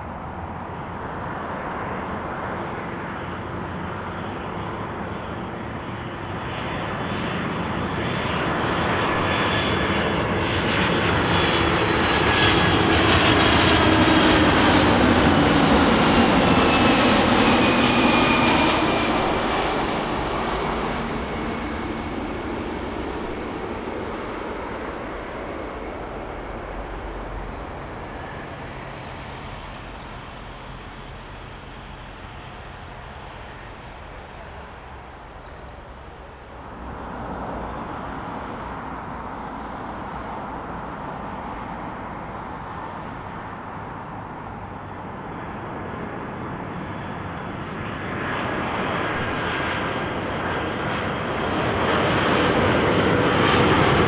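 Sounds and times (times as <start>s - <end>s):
jet airliner passing: 0.0s - 54.0s.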